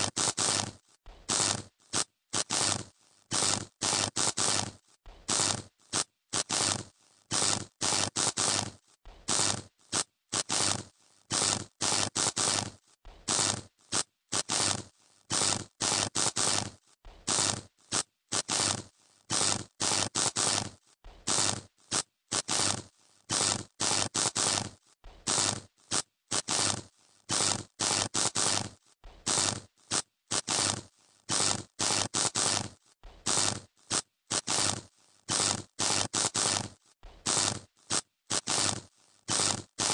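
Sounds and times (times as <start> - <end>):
electrical arcing crackling buzz: 0.0 - 39.9.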